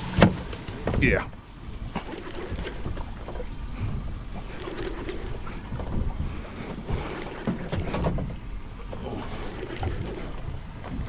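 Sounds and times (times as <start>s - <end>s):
boat noise: 0.0s - 11.0s
sea: 0.0s - 11.0s
wind buffeting microphone: 0.0s - 11.0s.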